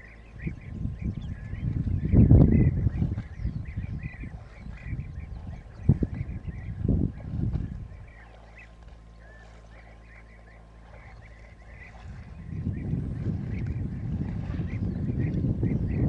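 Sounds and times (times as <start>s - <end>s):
wind gusts on microphone: 0.0s - 8.2s, 10.9s - 16.0s
birds chirping: 0.0s - 16.0s
steady low hum: 0.0s - 16.0s.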